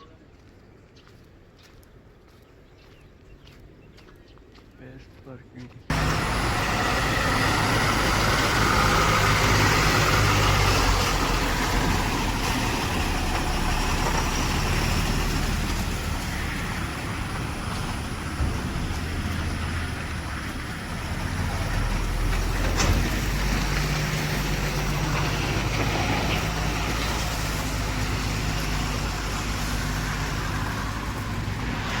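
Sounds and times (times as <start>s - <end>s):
diesel engine droning: 5.9s - 32.0s.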